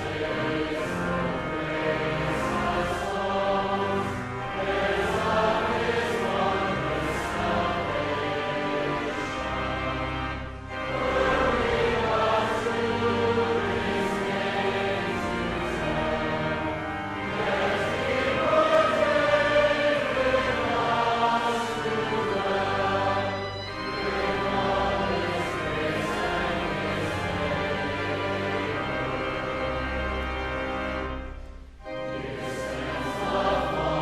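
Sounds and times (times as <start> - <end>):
choir singing worship music: 0.0 - 34.0.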